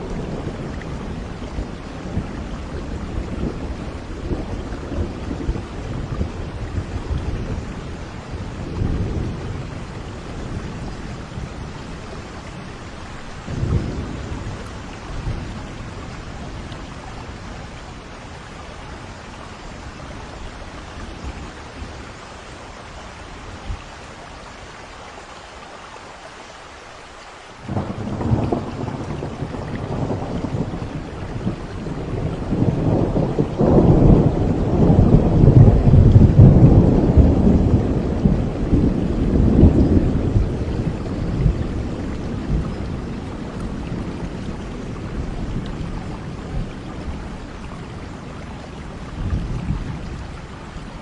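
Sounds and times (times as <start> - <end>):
rolling thunder: 0.0 - 17.8, 27.7 - 51.0
steady rain: 0.0 - 51.0.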